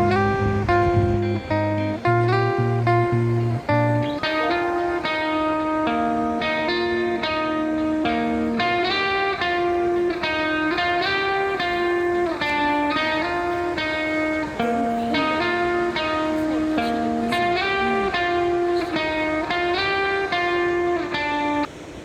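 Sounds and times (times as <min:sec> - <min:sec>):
guitar picking a repeating pattern: 0:00.0 - 0:21.7.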